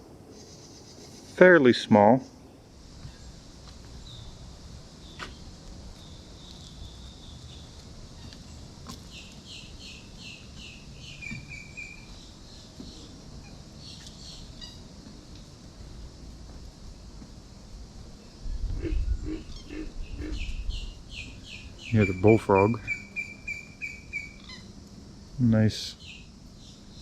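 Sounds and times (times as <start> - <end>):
bird singing: 0.3 - 15.1, 18.1 - 27.0.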